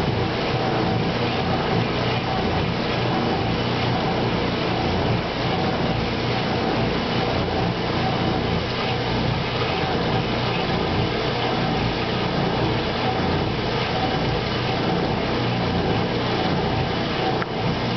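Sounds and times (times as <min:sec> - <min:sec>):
constant low hum: 0:00.0 - 0:17.9
water pouring into washer tub: 0:00.0 - 0:17.9.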